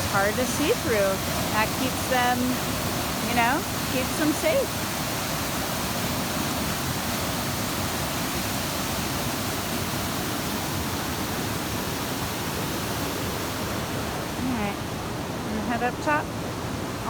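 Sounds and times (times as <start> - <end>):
water rushing over waterfall: 0.0 - 17.0.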